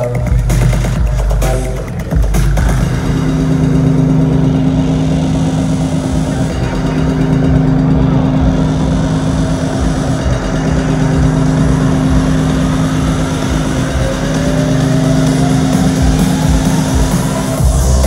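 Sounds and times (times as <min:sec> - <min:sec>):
loud electronic bass music: 0:00.0 - 0:18.0
rising synth sweep: 0:00.9 - 0:18.0.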